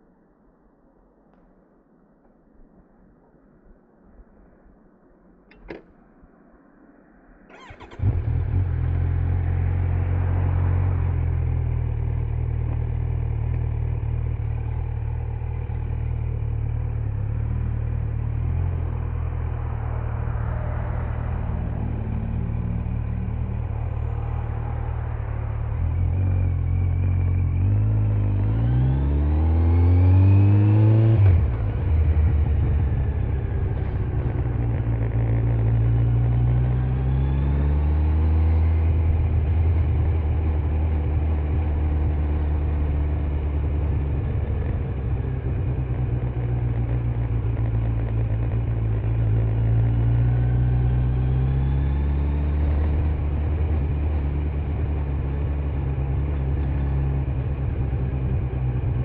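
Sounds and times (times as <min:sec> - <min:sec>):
motorcycle engine revving: 0:07.5 - 0:59.0.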